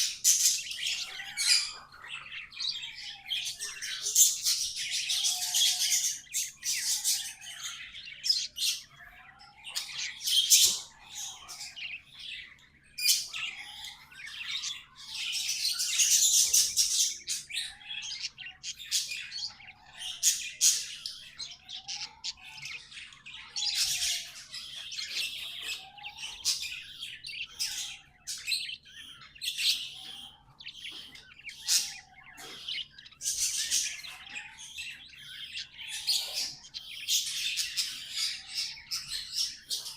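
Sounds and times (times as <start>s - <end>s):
budgies chattering and warbling: 0.0s - 39.9s.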